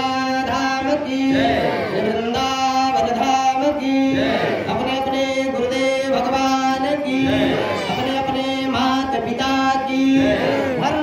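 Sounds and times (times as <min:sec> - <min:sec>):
person chanting devotional song: 0:00.0 - 0:11.0.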